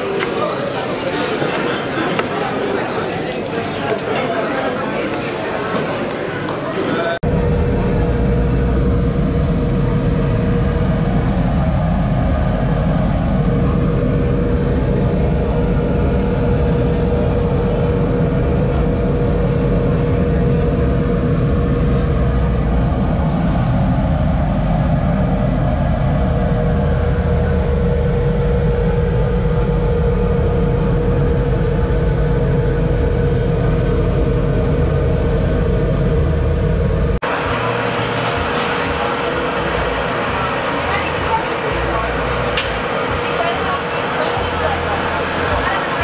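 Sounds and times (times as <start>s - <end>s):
ventilation hood fan rumbling: 0.0s - 46.0s.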